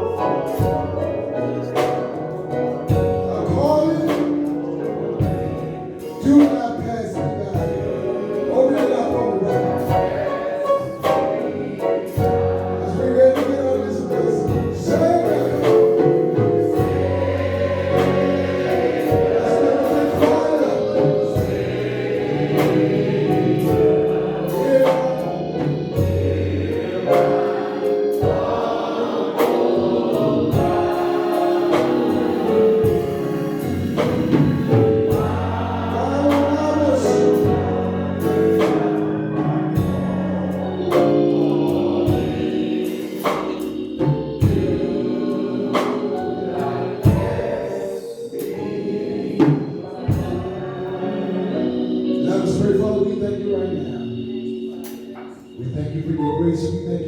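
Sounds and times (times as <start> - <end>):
instrumental accompaniment with beat: 0.0 - 55.6
choir singing gospel: 0.0 - 57.0.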